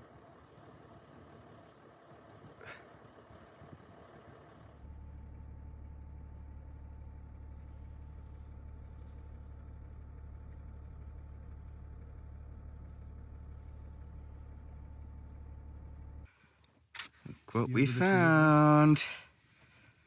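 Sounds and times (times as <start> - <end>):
low engine hum: 0.0 - 16.4.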